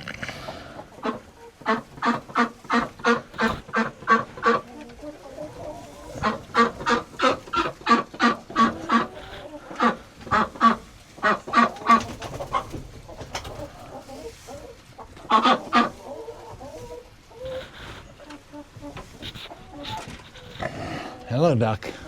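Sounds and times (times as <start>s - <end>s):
ducks quacking: 0.0s - 22.0s.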